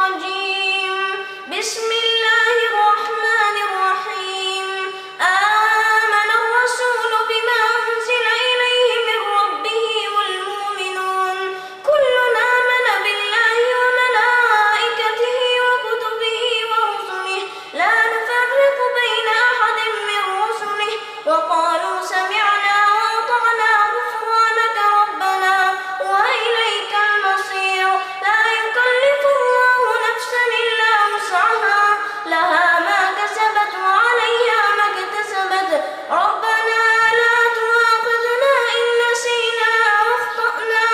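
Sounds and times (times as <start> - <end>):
boy reciting in melodic chant: 0.0 - 40.9.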